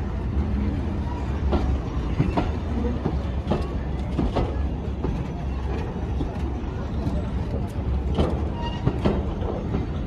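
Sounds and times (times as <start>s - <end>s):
train low rumble: 0.0s - 10.0s
wheels clicking over rail joints: 1.4s - 10.0s.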